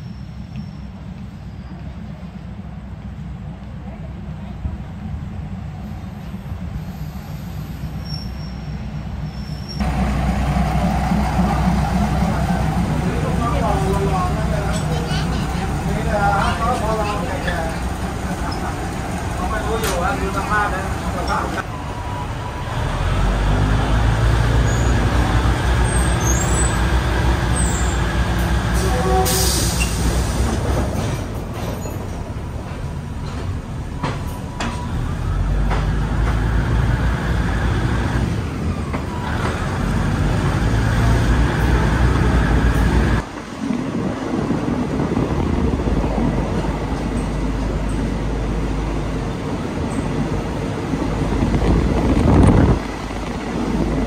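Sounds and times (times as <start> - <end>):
diesel train engine drone: 0.0 - 54.0
train wheel rumble: 0.0 - 54.0.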